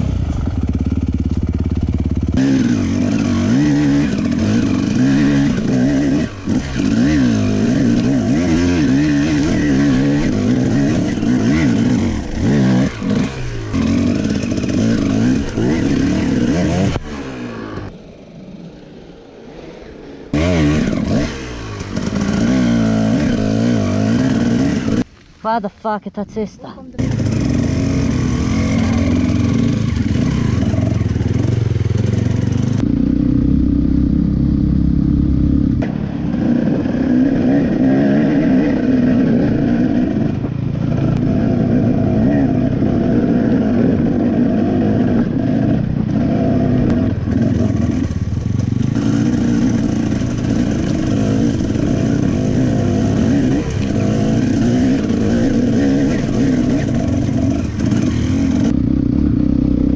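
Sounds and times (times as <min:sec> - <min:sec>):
dirt bike engine revving: 0:00.0 - 0:19.6, 0:20.3 - 0:25.1, 0:26.9 - 0:59.9.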